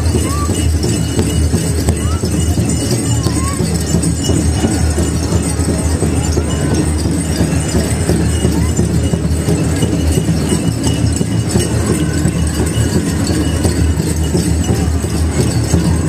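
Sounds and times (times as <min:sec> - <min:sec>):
large drum steady beat: 0:00.0 - 0:16.0.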